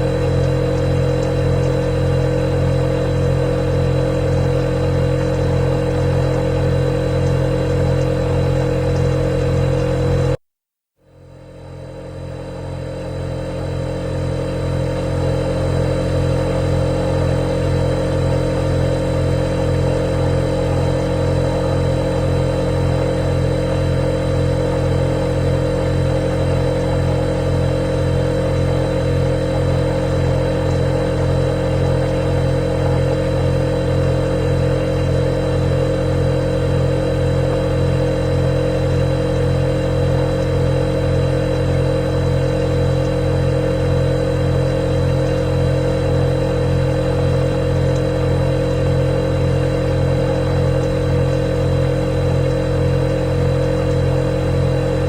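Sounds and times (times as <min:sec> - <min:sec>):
refrigerator compressor humming: 0:00.0 - 0:10.4, 0:11.0 - 0:55.0.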